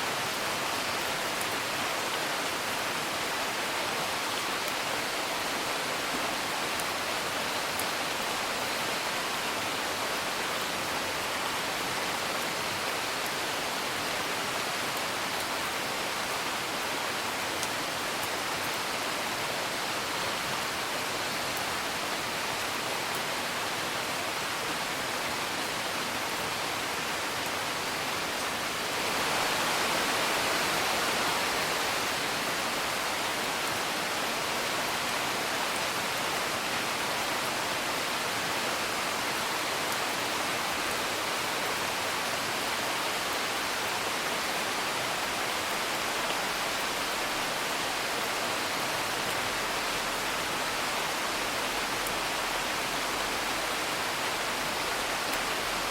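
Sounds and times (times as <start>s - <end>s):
rain hiss: 0.0s - 55.9s.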